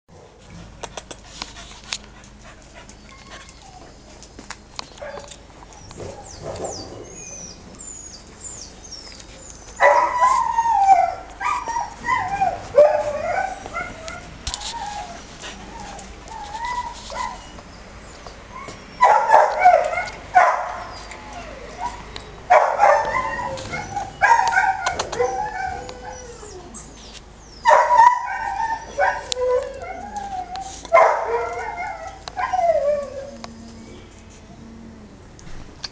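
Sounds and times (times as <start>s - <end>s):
dogs barking and yelping: 0.2s - 34.9s
dogs whining: 2.1s - 35.2s.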